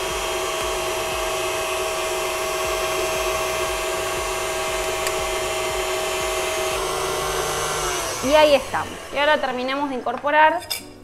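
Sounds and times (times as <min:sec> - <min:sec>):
stand mixer motor humming: 0:00.0 - 0:10.1.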